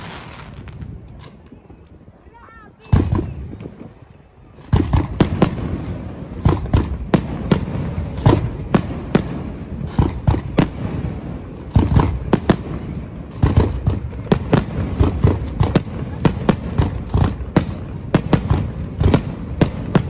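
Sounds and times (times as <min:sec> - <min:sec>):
fireworks bangs: 0:00.0 - 0:01.7, 0:02.8 - 0:20.0.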